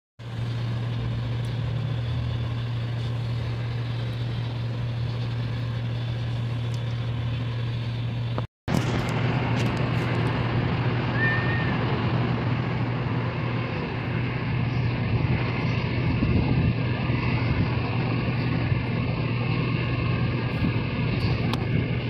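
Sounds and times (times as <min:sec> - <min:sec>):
low machine hum: 0:00.2 - 0:22.0.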